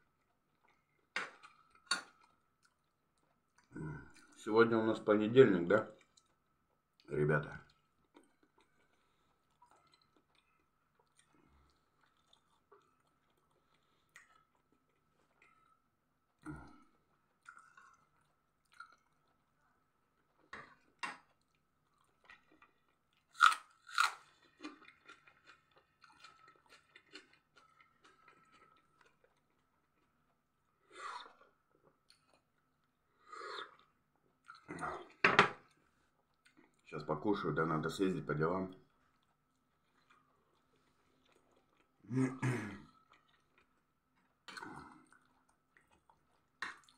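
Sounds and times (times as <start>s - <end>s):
person chewing food: 0.0s - 4.4s, 6.0s - 36.8s, 38.9s - 42.0s, 42.8s - 46.9s.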